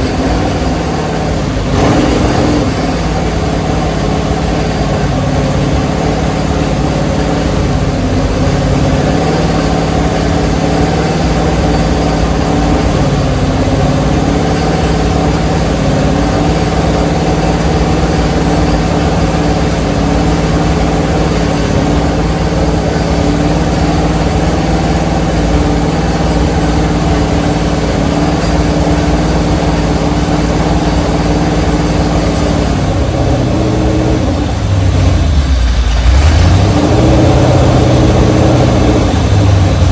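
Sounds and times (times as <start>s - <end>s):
engine running at fast idle: 0.0s - 39.9s.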